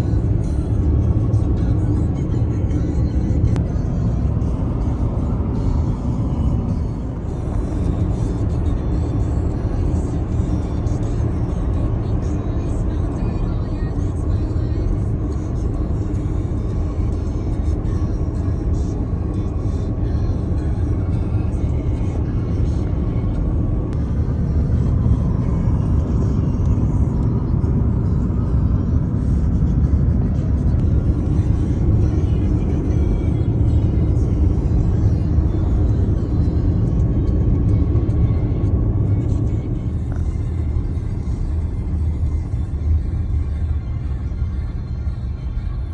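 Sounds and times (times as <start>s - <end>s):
car tyres and engine rumble: 0.0s - 45.9s
music playing: 0.0s - 45.9s.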